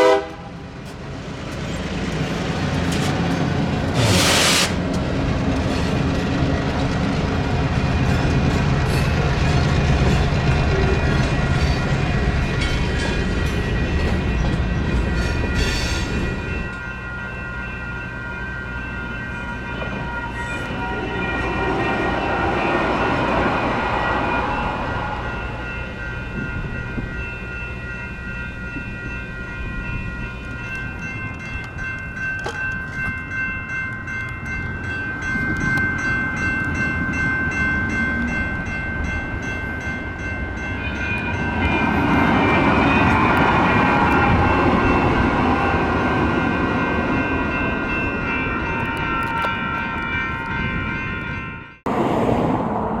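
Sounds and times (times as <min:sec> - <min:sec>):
light rail trains rumbling past: 0:00.0 - 0:53.0.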